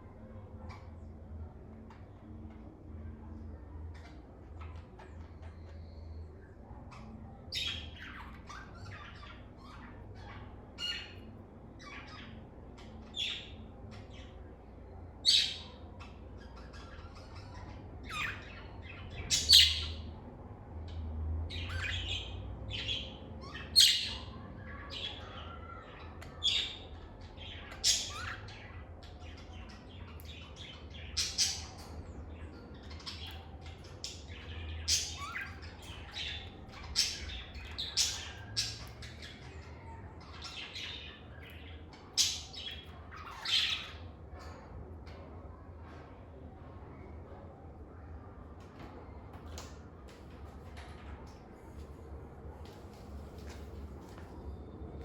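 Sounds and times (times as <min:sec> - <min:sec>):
faint low hum: 0:00.0 - 0:55.0.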